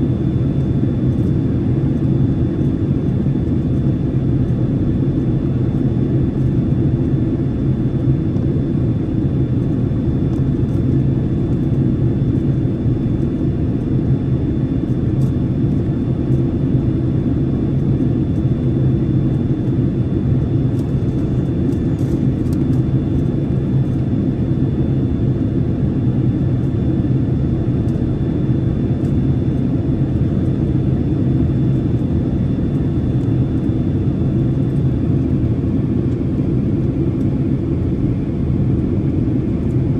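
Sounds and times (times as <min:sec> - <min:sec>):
engine and airflow rumble: 0:00.0 - 0:39.9.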